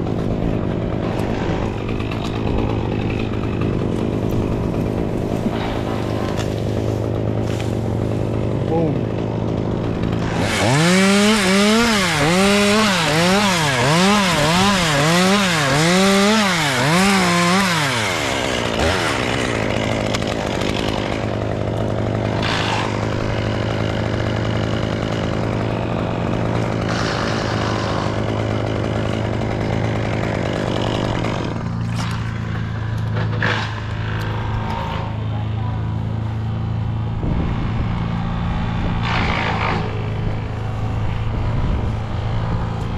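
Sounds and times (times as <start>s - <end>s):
chainsaw revving: 0.0s - 42.9s
steady engine hum: 0.0s - 42.9s.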